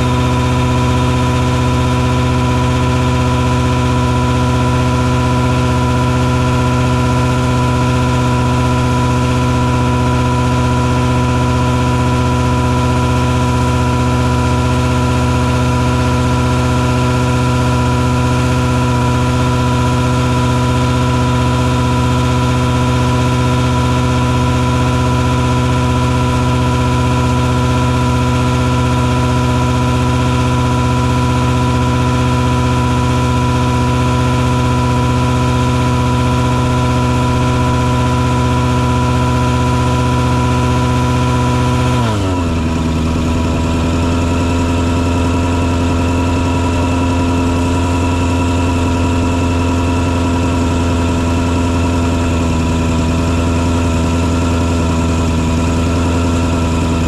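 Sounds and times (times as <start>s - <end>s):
fogging machine engine running: 0.0s - 57.0s.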